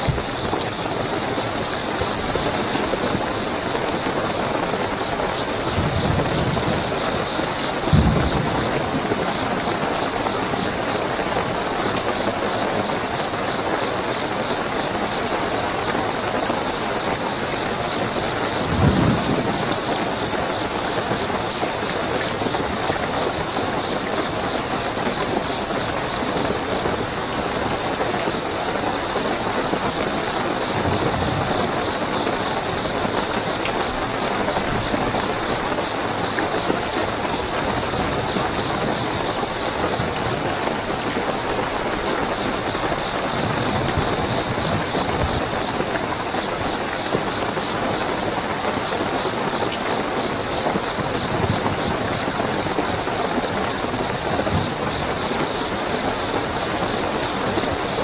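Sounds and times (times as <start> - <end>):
crickets trilling: 0.0 - 58.0
rainfall: 0.0 - 58.0.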